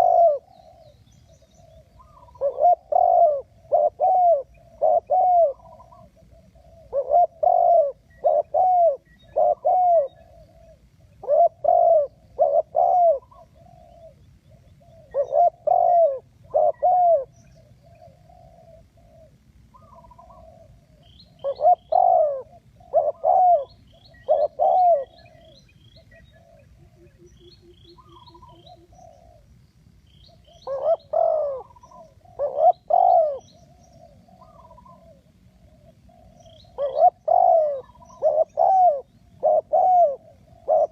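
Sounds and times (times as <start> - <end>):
dove cooing: 0.0 - 29.6, 30.2 - 40.9
small bird chirping: 0.0 - 40.9.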